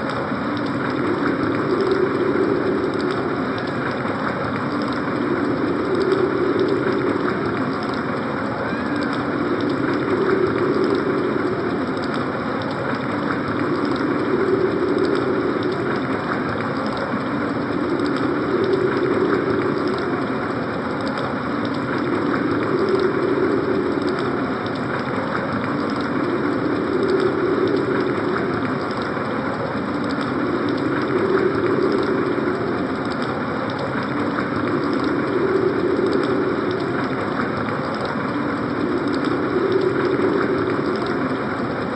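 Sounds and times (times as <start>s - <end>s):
synthesized wind storm noise: 0.0s - 41.9s.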